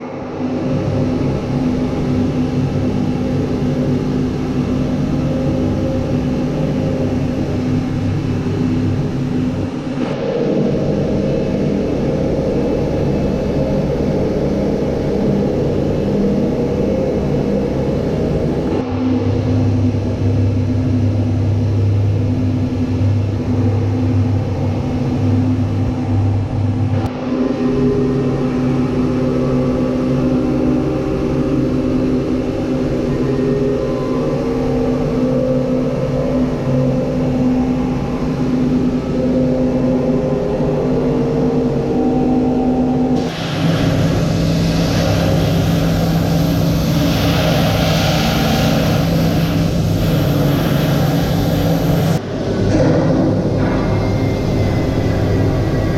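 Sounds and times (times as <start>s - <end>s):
steady motor drone: 0.0s - 55.9s.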